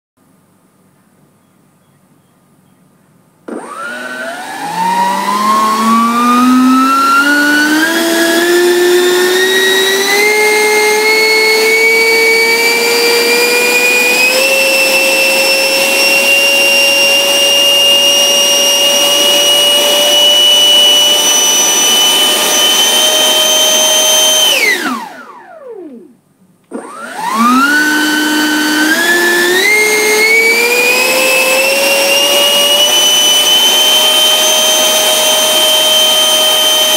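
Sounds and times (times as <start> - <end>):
electric ducted fan whining: 3.4 - 36.9.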